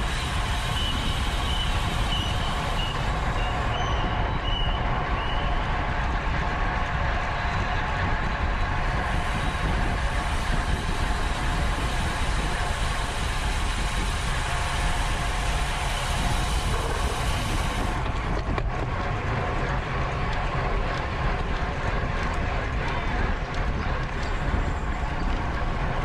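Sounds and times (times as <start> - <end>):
bicycle road noise: 0.0 - 26.0
wind rushing over microphone: 0.0 - 26.0.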